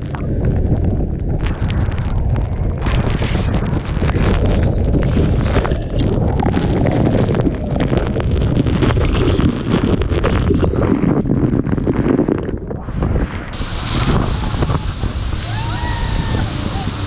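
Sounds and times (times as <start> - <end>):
small crackles: 0.0 - 15.5
wind and water rushing: 0.0 - 17.0.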